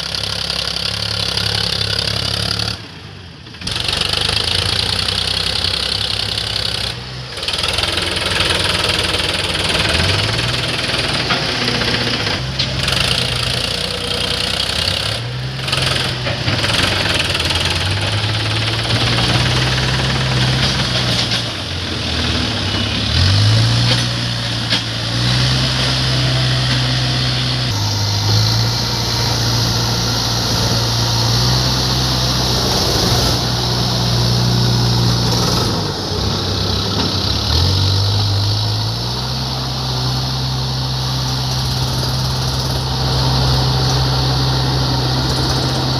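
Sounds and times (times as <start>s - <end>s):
diesel engine revving under load: 0.0s - 45.9s.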